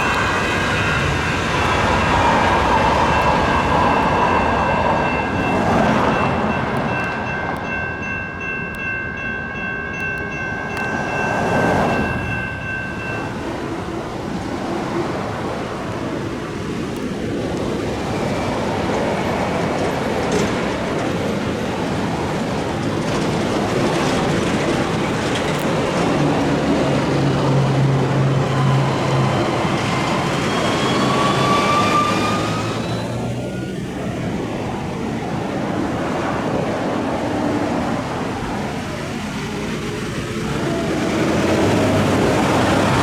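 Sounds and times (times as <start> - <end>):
train wheels rumbling on tracks: 0.0 - 43.0.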